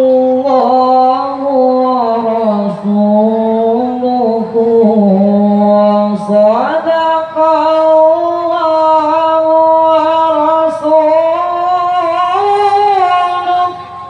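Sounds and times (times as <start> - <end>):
man reciting in melodic style: 0.0 - 14.0.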